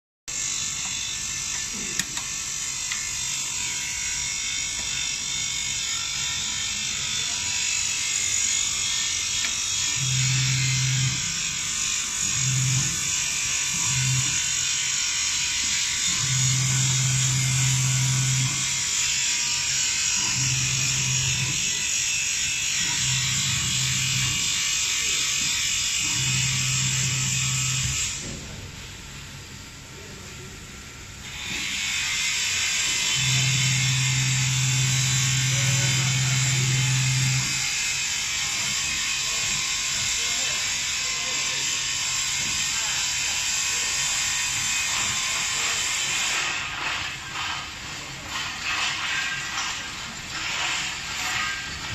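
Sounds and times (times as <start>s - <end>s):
laser marking machine hissing: 0.3s - 28.1s, 31.2s - 51.9s
electric door motor humming: 0.3s - 28.8s, 30.4s - 51.9s.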